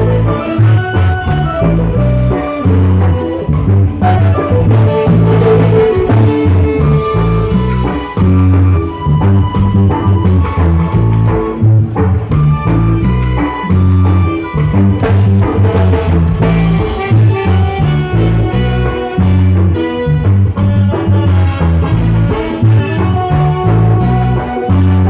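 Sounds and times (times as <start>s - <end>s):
drum kit and congas: 0.0s - 25.0s
electric bass line: 0.0s - 25.0s
flutes and saxophone melody: 0.0s - 25.0s.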